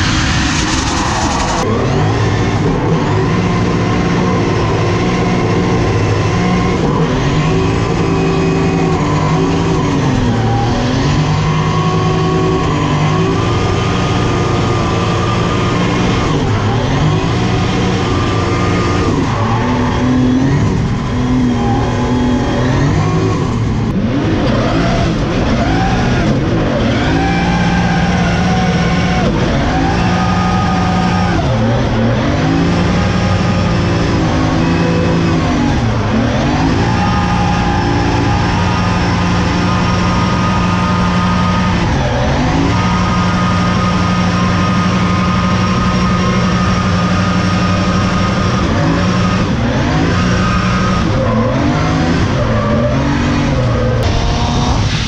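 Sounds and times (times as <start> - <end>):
car engine revving high: 0.0 - 55.0.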